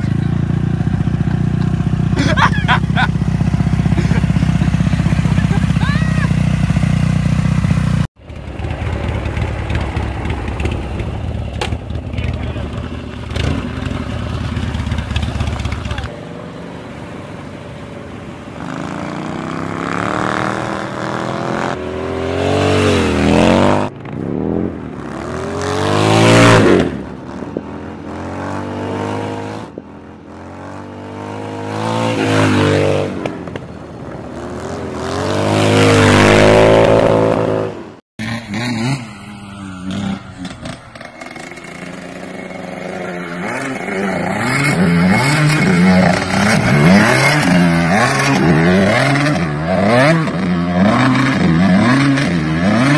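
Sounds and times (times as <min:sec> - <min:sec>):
dirt bike engine revving unevenly: 0:00.0 - 0:16.7, 0:18.5 - 0:52.9
motorcycle engine revving: 0:00.0 - 0:17.2, 0:18.3 - 0:52.9.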